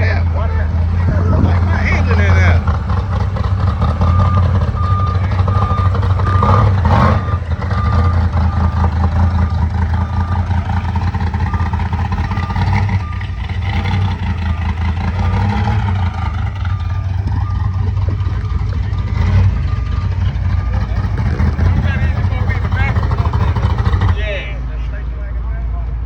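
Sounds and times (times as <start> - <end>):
car engine idling: 0.0 - 26.0
high electronic beeps: 1.1 - 2.8, 3.8 - 23.5.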